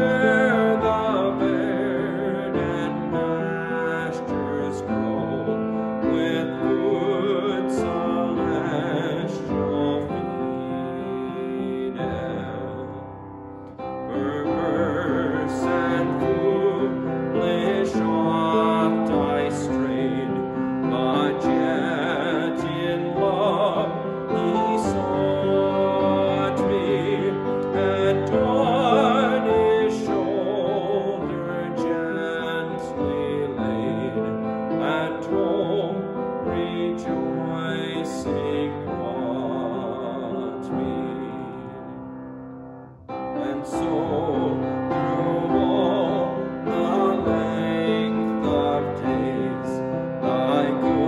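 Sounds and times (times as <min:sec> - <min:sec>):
hymn singing: 0:00.0 - 0:51.0
keyboard accompaniment: 0:00.0 - 0:51.0.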